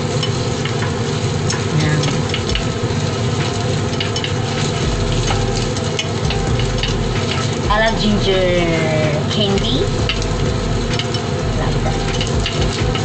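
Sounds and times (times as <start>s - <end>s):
ginger sizzling in hot oil: 0.0s - 13.0s
kitchen exhaust fan rushing: 0.0s - 13.0s
utensil clicking against pan: 0.1s - 7.6s, 10.0s - 13.0s.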